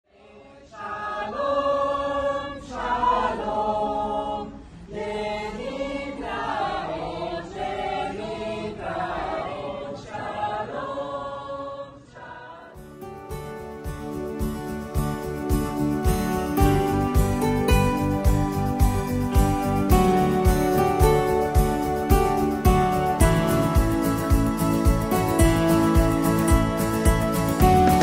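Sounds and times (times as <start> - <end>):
choir singing: 0.1 - 28.0.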